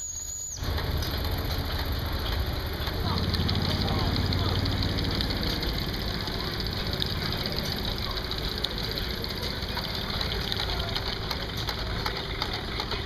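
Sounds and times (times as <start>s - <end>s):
engine idling with knocking: 0.6s - 13.0s.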